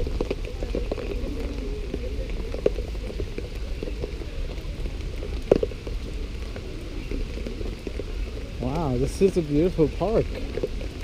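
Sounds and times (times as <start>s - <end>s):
rain drops tapping: 0.0s - 11.0s.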